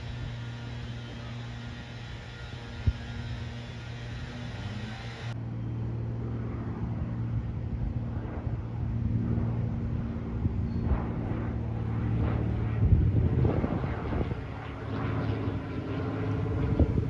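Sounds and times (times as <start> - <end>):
propeller aircraft droning: 0.0 - 17.0.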